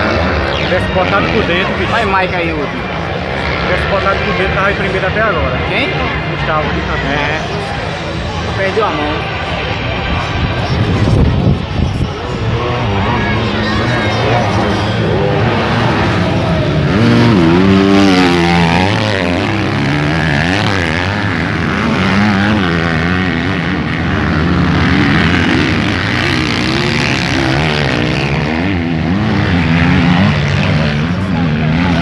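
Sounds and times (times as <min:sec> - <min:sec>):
motocross bikes revving past: 0:00.0 - 0:32.0.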